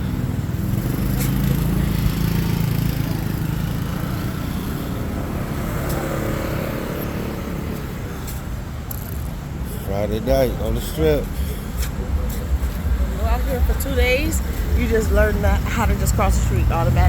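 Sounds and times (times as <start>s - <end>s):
street traffic: 0.0s - 17.0s
vehicle engine running: 0.0s - 17.0s.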